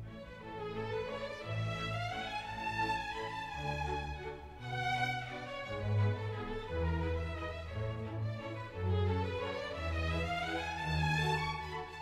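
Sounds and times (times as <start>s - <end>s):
bowed strings melody: 0.0s - 12.0s.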